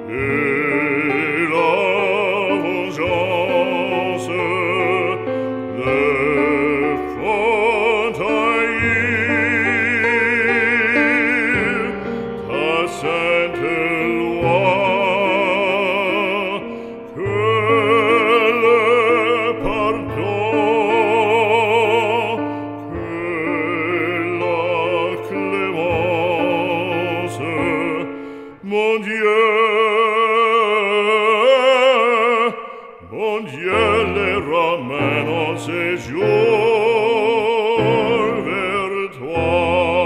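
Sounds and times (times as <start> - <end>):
operatic singing: 0.0 - 40.0.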